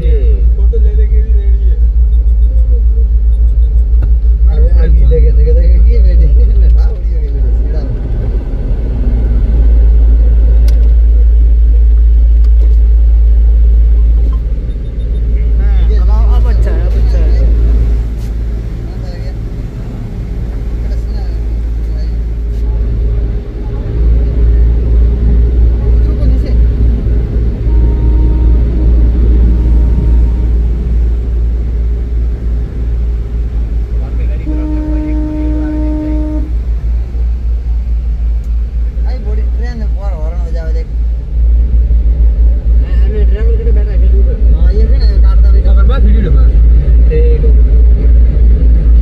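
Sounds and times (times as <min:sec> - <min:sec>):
boat engine drone: 0:00.0 - 0:49.0.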